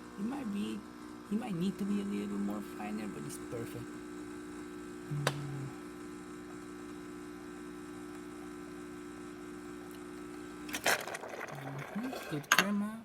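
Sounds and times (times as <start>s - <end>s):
espresso machine pump humming: 0.0s - 12.9s.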